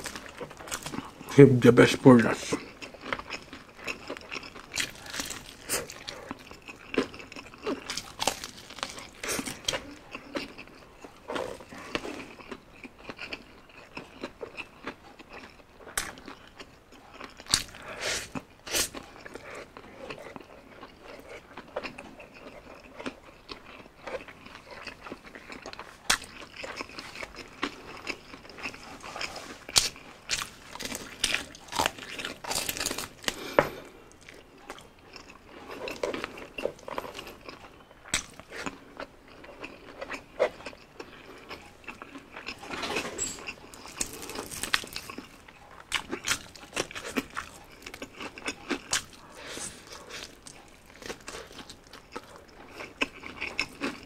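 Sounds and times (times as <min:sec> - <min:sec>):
chewing crispy chicken crunches: 0:00.0 - 0:54.0.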